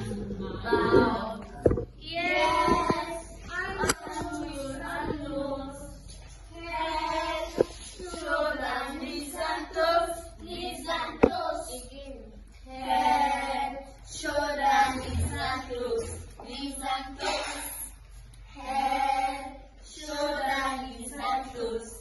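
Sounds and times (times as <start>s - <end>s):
children singing: 0.0s - 11.9s, 12.6s - 22.0s.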